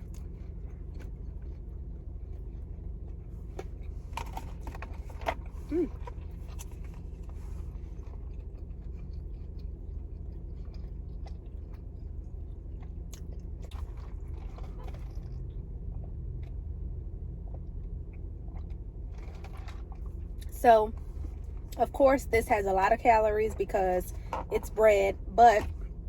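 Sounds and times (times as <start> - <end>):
chewing crispy sandwich: 0.0 - 21.8
steady low hum: 0.0 - 26.0.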